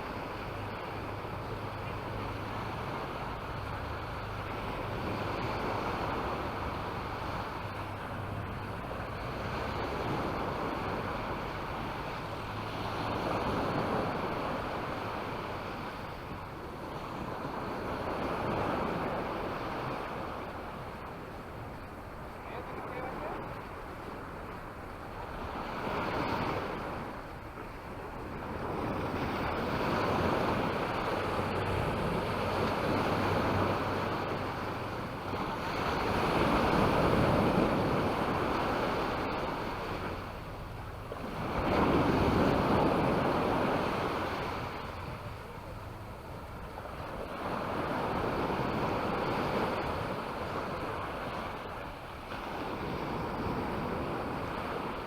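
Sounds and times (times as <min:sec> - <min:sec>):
small waves washing up beach: 0:00.0 - 0:55.0.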